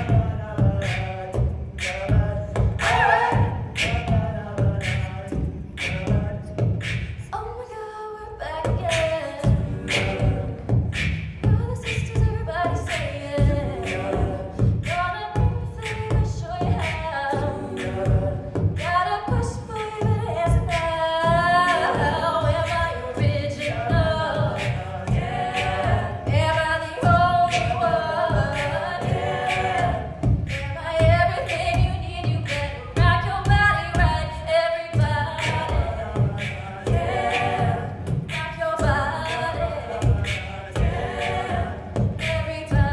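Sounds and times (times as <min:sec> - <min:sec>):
beatboxed beat: 0:00.0 - 0:42.9
women singing a cappella: 0:00.0 - 0:42.9.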